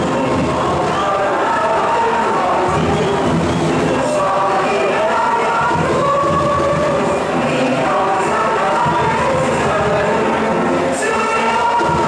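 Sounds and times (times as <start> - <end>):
crowd singing with music: 0.0 - 12.0
stadium crowd noise: 0.0 - 12.0.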